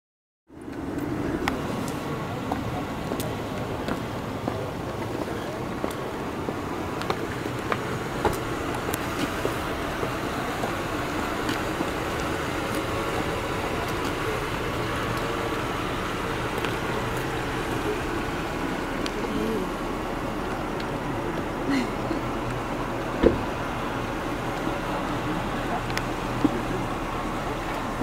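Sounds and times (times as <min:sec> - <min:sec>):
street traffic: 0:00.5 - 0:28.0.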